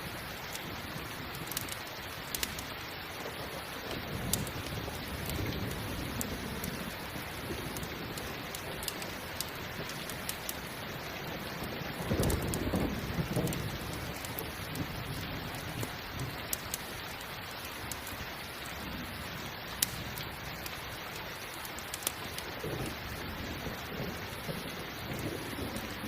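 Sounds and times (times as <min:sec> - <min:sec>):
thunder rumbling: 0:00.0 - 0:16.8, 0:22.0 - 0:26.0
campfire crackling: 0:00.0 - 0:26.0
steady rain: 0:00.0 - 0:26.0.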